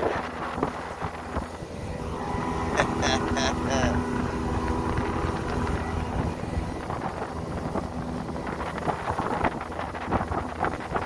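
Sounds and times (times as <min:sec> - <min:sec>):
outboard motor drone: 0:00.0 - 0:11.0
wind buffeting microphone: 0:00.0 - 0:11.0.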